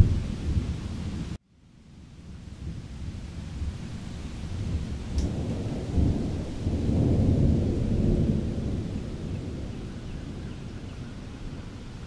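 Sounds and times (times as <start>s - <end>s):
rolling thunder: 0.0s - 1.4s, 2.3s - 12.0s.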